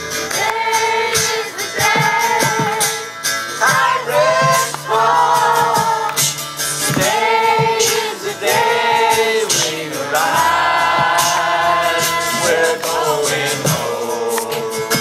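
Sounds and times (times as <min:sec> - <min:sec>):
live band playing: 0:00.0 - 0:15.0
audience singing along: 0:00.1 - 0:15.0.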